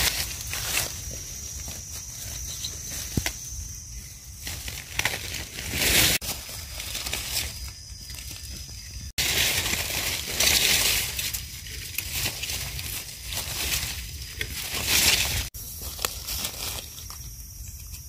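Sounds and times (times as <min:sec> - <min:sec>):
dry grass rustling: 0:00.0 - 0:18.0.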